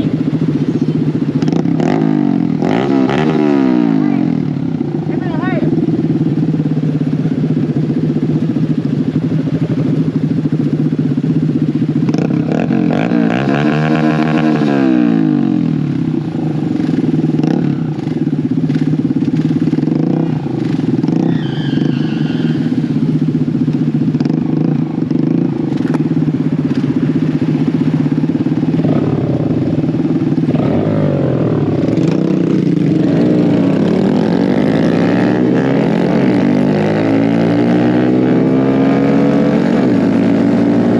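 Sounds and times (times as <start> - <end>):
mini bike engine revving: 0.0 - 5.9, 12.0 - 40.9.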